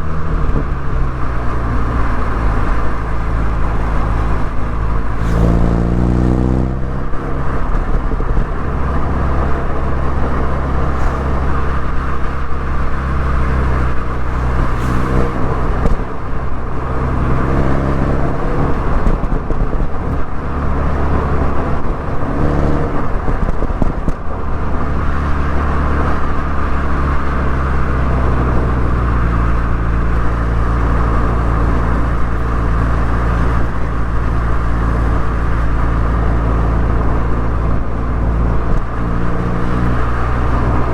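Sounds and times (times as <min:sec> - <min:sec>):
car engine and exhaust: 0:00.0 - 0:40.9.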